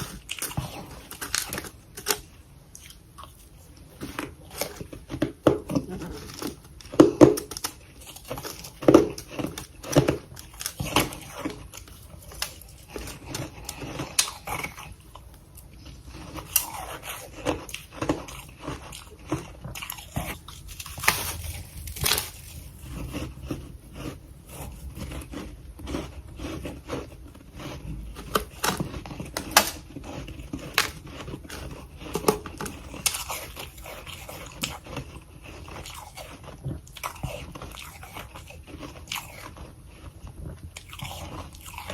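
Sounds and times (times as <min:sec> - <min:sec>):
crunching frost being chewed: 0:00.0 - 0:41.9.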